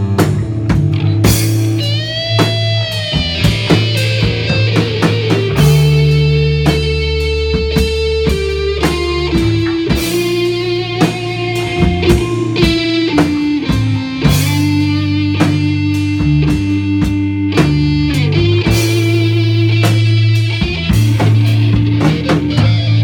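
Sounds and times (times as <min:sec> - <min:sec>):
bass notes: 0:00.0 - 0:23.0
distorted electric guitar: 0:00.0 - 0:23.0
drum hits: 0:00.0 - 0:23.0.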